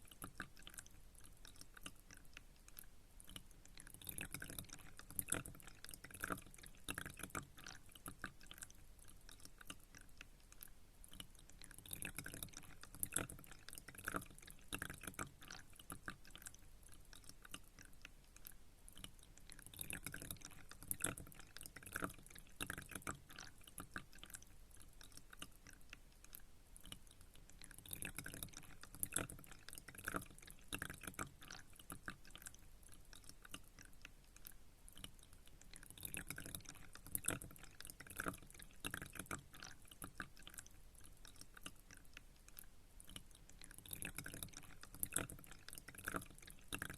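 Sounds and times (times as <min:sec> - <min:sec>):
faint steady water wash: 0:00.0 - 0:46.9
water dripping and trickling: 0:00.0 - 0:46.9.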